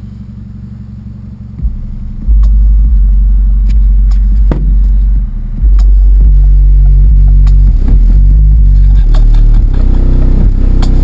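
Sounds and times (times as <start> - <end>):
deep hip-hop bass from subwoofers: 0.0 - 11.0.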